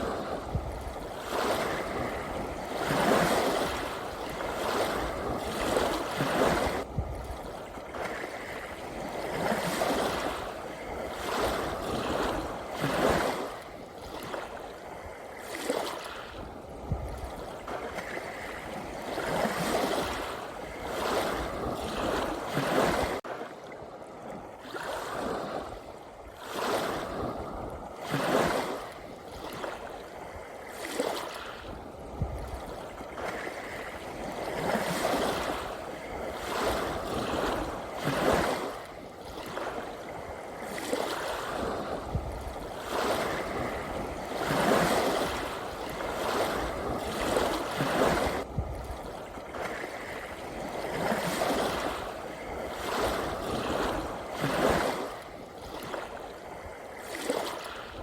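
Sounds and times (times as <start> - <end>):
ocean waves lapping: 0.0 - 58.0.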